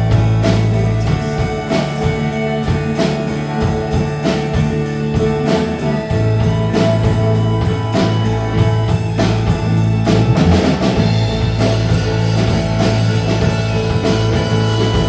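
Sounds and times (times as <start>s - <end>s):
drum and cymbal hits: 0.0s - 15.0s
low bass notes: 0.0s - 15.0s
rock band playing: 0.0s - 15.0s.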